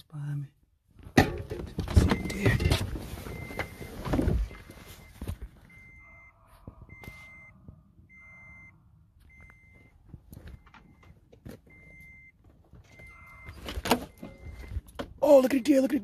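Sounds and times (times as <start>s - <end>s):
truck warning chime beeping: 1.7s - 15.9s.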